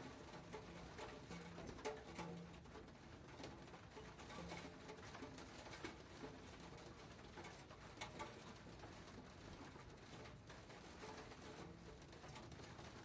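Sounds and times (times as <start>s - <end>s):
light rain falling: 0.0s - 13.0s.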